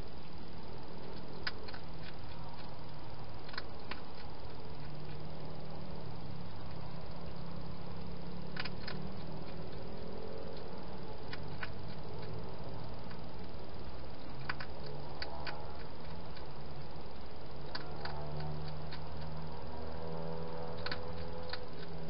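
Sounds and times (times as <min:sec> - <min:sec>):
steady low hum: 0:00.0 - 0:22.0
hedgehog chewing crunches: 0:00.7 - 0:22.0.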